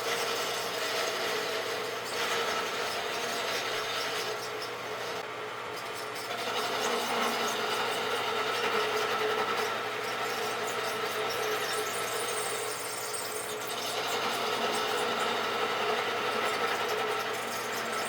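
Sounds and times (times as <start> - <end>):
tool scraping spinning wood: 0.0 - 18.0
wood lathe motor hum: 0.0 - 18.0.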